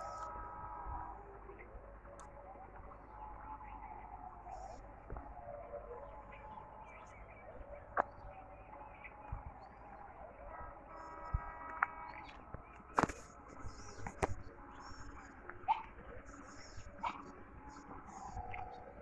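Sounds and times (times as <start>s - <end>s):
birds chirping: 0.0s - 19.0s
faint multi-pitch tone: 0.0s - 19.0s.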